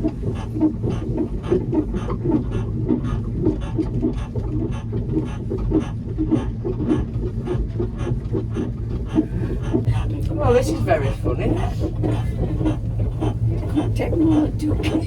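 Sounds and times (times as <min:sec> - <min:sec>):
small train rumbling and clacking: 0:00.0 - 0:15.0.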